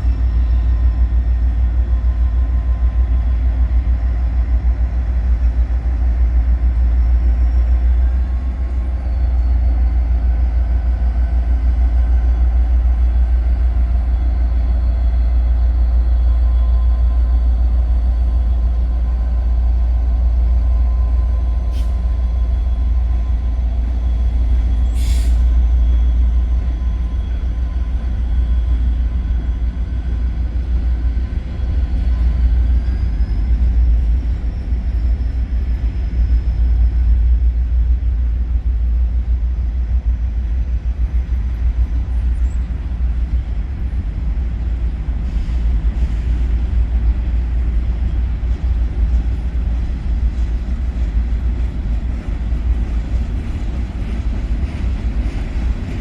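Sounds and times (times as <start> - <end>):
freight train rumbling on rails: 0.0 - 56.0.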